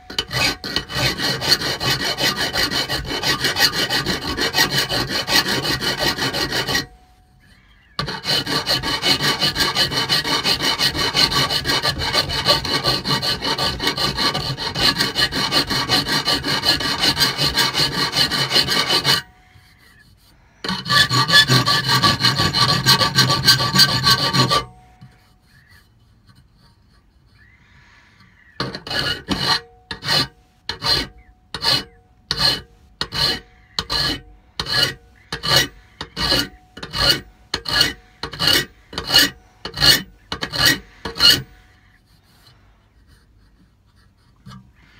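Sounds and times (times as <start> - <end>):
hand file rasping: 0.0 - 27.6, 28.2 - 44.9.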